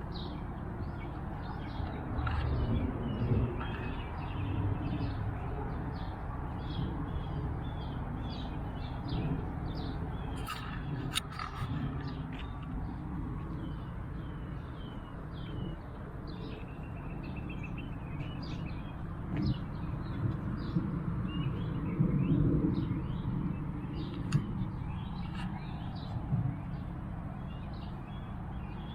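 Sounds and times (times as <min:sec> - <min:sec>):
songbirds chirping: 0:00.0 - 0:28.9
steady low rumble: 0:00.0 - 0:28.9.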